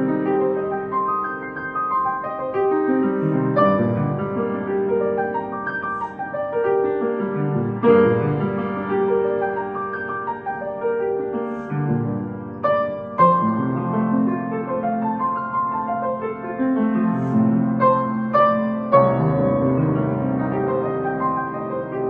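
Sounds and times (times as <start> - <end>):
slow piano piece: 0.0 - 22.0.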